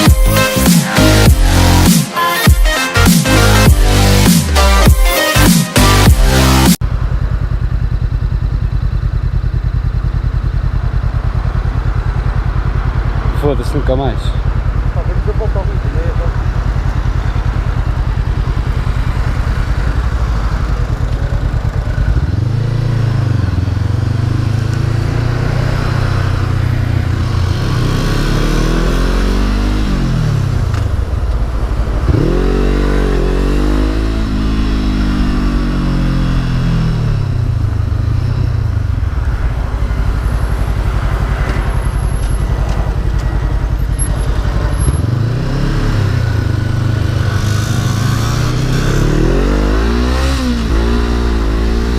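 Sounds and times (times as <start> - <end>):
motorcycle engine running: 5.7 - 51.9.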